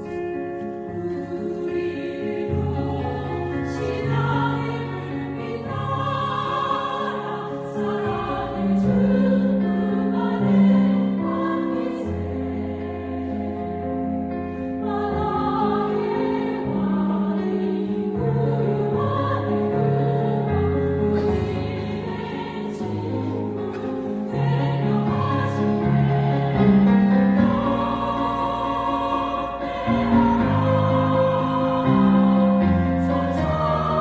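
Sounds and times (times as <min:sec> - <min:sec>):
vocal ensemble singing a hymn: 0:00.0 - 0:34.0.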